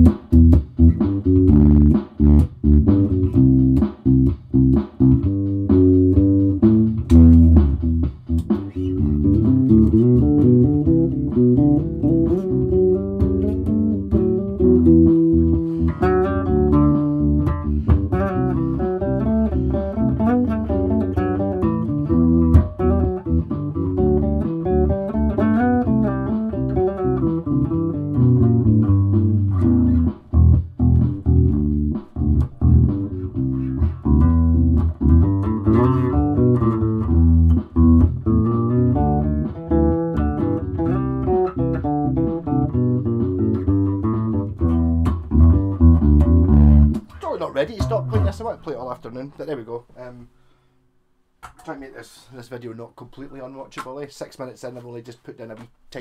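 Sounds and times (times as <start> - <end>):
electric bass playing: 0.0 - 49.7
backing track with drums: 0.0 - 50.2.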